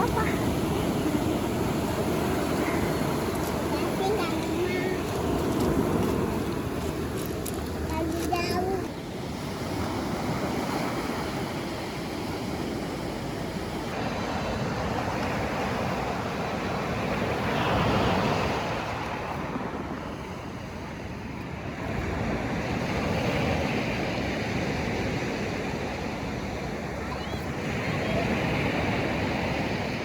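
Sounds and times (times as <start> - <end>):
sea waves washing onto beach: 0.0 - 30.0
wind buffeting microphone: 0.0 - 30.0.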